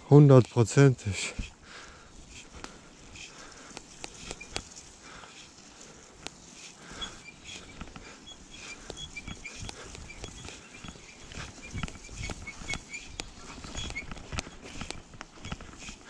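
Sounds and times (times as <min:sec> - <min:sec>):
bike tyres crackling over twigs: 0:00.0 - 0:16.0
bike clicking and rattling: 0:01.3 - 0:16.0.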